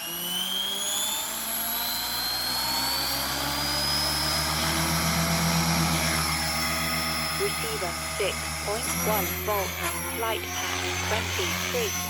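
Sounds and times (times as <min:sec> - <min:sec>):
high motor whine: 0:00.0 - 0:12.0
low rotor hum: 0:02.2 - 0:12.0.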